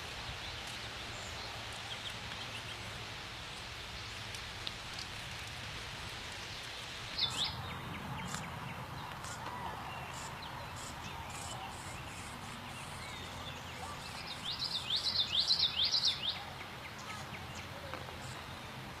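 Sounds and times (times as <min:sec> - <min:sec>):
songbirds chirping: 0:00.0 - 0:19.0
steady background hiss: 0:00.0 - 0:19.0.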